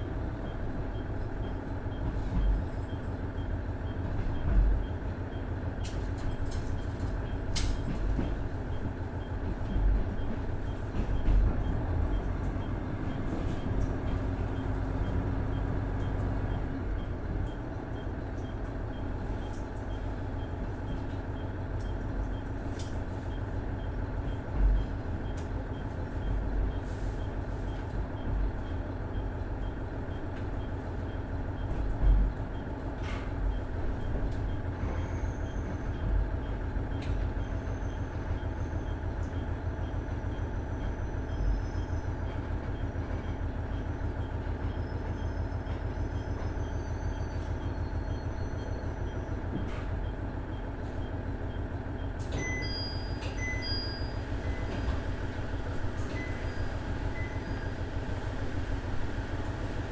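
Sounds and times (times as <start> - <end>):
diesel railcar engine running: 0.0 - 59.9.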